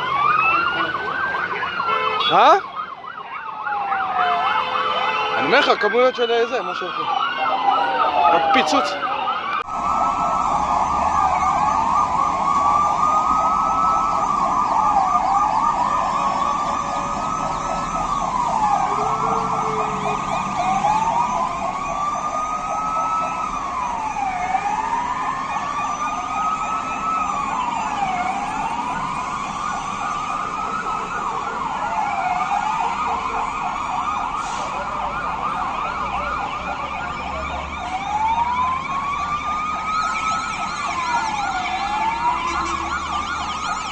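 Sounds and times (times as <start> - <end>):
emergency sirens wailing: 0.0 - 43.9.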